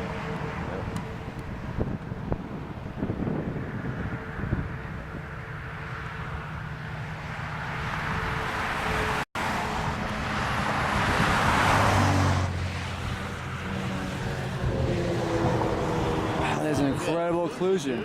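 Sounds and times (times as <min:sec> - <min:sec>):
car engine: 0:00.0 - 0:18.0
road noise: 0:00.0 - 0:18.0.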